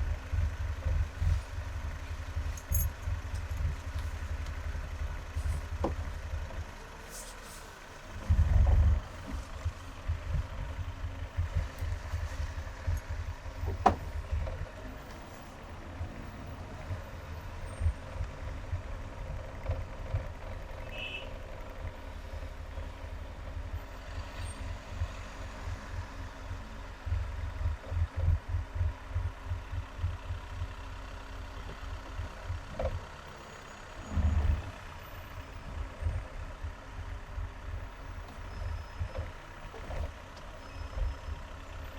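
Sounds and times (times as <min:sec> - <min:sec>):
highway traffic rumble: 0:00.0 - 0:41.9.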